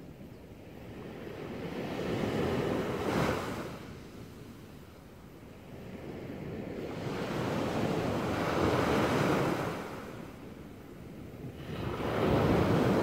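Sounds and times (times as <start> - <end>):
small waves breaking on beach: 0.7 - 13.0.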